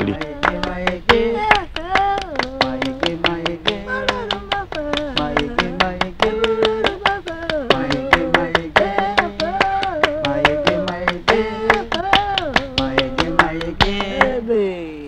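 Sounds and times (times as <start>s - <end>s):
hand clapping: 0.0s - 14.4s
women singing a chant: 0.0s - 14.6s.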